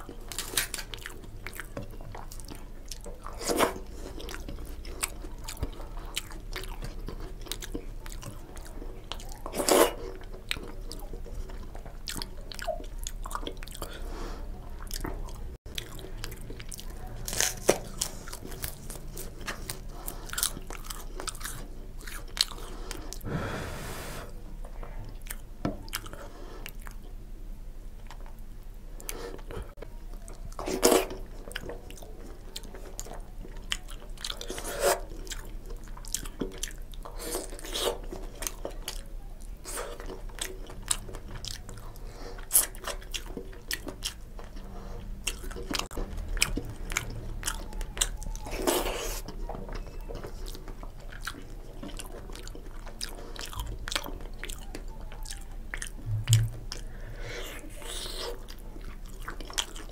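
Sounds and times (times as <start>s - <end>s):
person chewing with wet mouth sounds: 0.0s - 24.2s, 24.8s - 27.3s, 28.0s - 59.9s.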